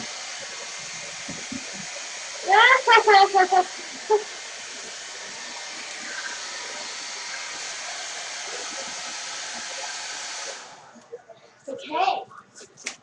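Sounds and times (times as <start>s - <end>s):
blow dryer running: 0.0s - 11.1s.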